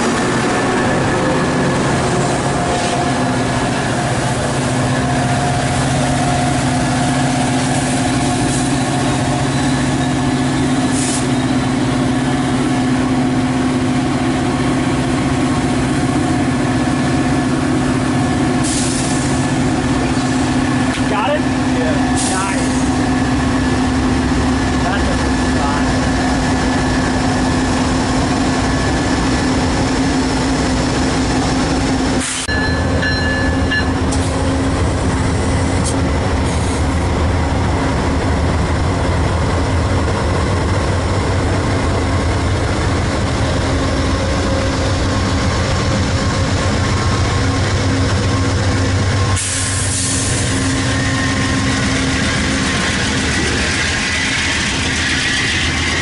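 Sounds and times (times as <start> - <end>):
diesel locomotive engines running: 0.0 - 56.0
train wheels rumbling on rails: 0.0 - 56.0.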